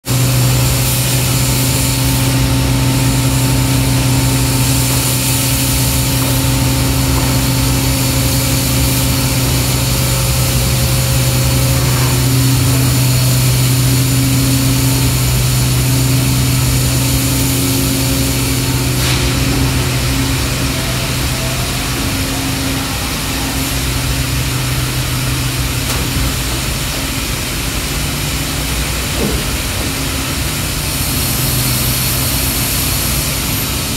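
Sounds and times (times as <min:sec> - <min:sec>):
machinery humming: 0:00.0 - 0:33.9.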